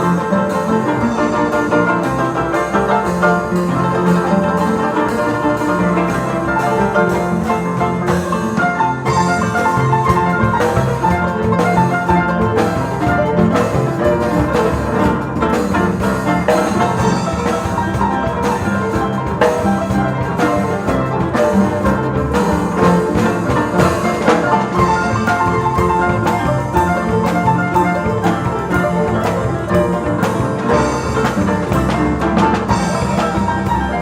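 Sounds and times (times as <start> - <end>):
harp ensemble playing: 0.0 - 34.0.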